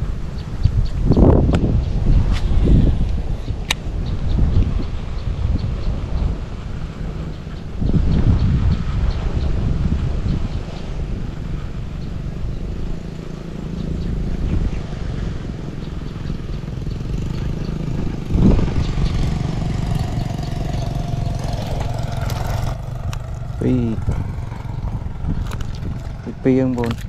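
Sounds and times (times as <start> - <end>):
rumble of road traffic: 0.0 - 27.0.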